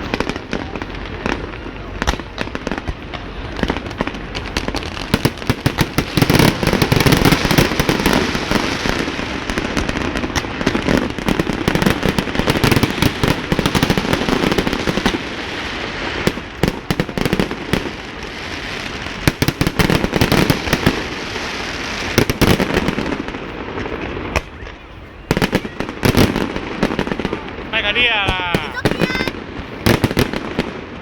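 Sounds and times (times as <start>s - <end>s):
fireworks booming bursts: 0.0s - 31.0s
fireworks crackling: 0.0s - 31.0s.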